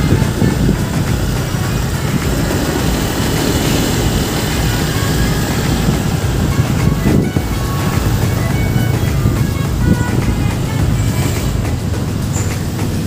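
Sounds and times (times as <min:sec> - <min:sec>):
motorcycle road noise rumble: 0:00.0 - 0:13.0
wind rushing: 0:00.0 - 0:13.0.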